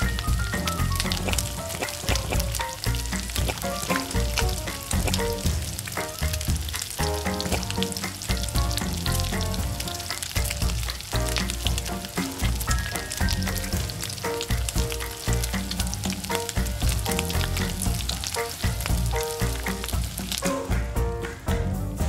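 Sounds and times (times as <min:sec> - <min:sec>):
background music: 0:00.0 - 0:22.0
oil sizzling crackle: 0:00.0 - 0:22.0.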